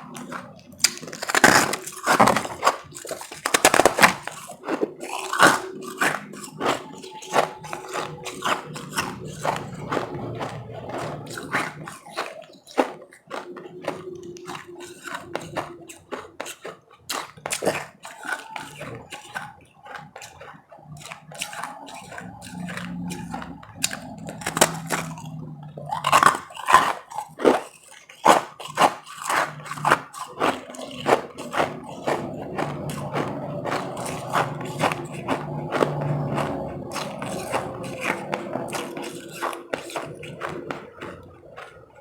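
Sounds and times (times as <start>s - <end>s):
chewing crunchy ice: 0.0s - 42.0s.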